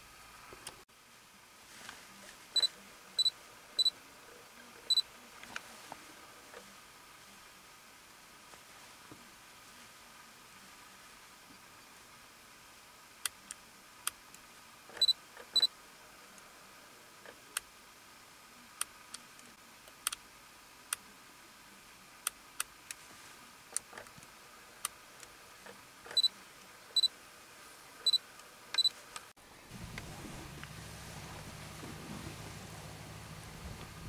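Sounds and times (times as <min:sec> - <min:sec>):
quiet hiss: 0:00.0 - 0:34.0.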